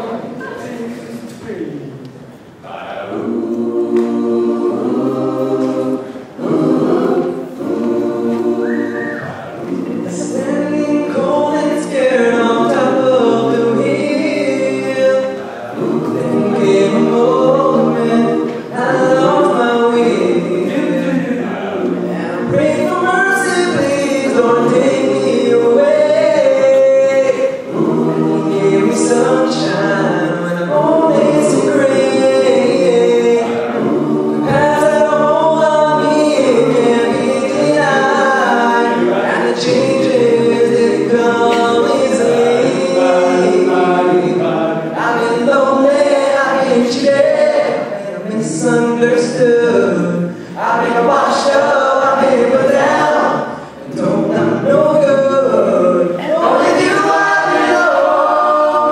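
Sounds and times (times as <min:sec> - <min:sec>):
a cappella choir singing: 0:00.0 - 0:58.9.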